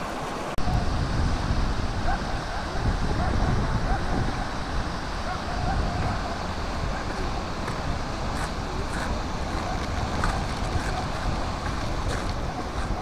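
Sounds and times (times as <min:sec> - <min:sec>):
waterfall rushing: 0:00.0 - 0:13.0
wind rumbling on microphone: 0:00.0 - 0:13.0.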